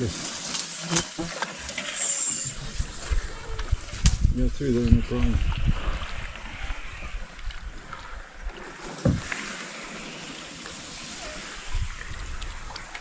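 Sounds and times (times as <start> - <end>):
paddle swishing in water: 0.0 - 13.0.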